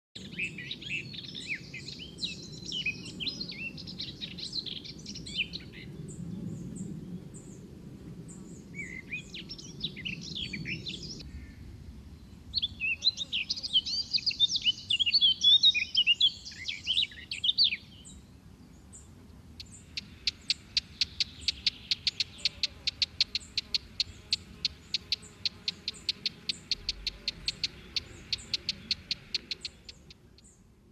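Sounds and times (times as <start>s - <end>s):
songbirds chirping: 0.2s - 30.9s.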